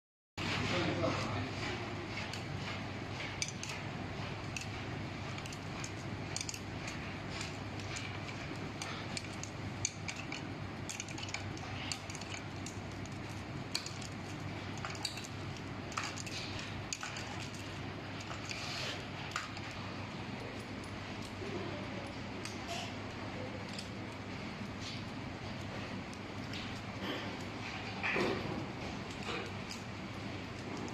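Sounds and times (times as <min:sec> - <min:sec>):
steady low hum: 0:00.4 - 0:30.9.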